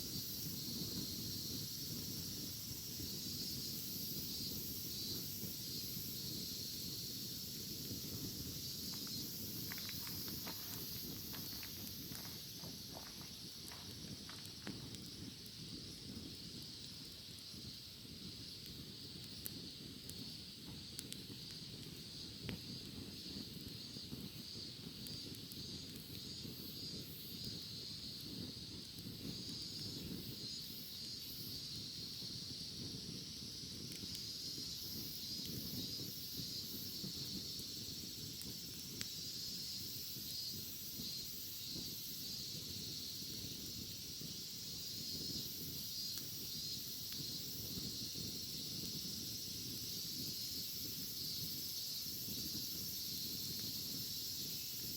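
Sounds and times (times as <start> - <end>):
bonfire rumble and crackles: 0.0 - 54.9
cicadas shrilling: 0.0 - 54.9.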